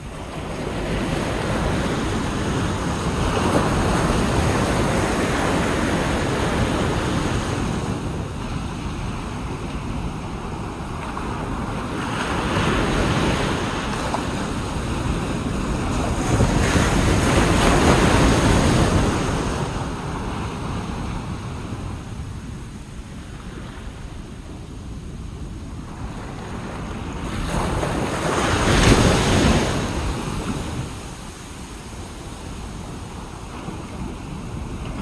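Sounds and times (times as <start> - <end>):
ocean waves breaking on beach: 0.0 - 35.0
wind buffeting microphone: 0.0 - 35.0.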